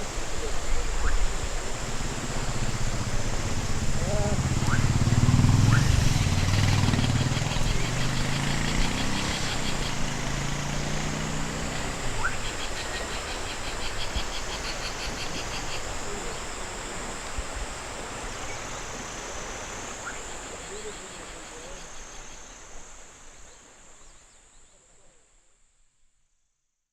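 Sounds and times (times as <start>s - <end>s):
distant traffic: 0.0s - 23.1s
pulsing insect trills: 0.0s - 25.4s
insects buzzing: 0.0s - 25.8s.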